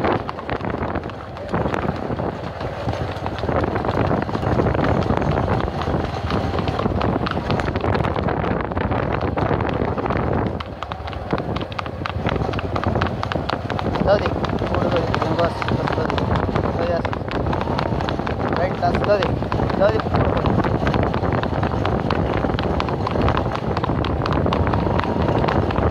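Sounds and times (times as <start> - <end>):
vehicle engine running: 0.0 - 25.8
wind buffeting microphone: 0.0 - 25.9.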